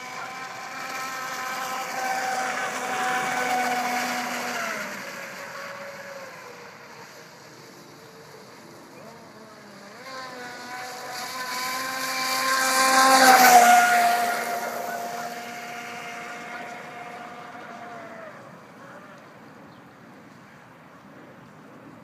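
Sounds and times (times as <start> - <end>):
toy speedboat motor whining: 0.0 - 19.0.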